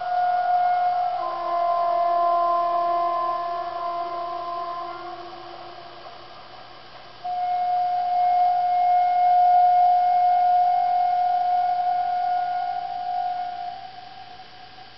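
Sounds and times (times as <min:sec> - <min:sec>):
steady high-pitched tone: 0:00.0 - 0:14.9.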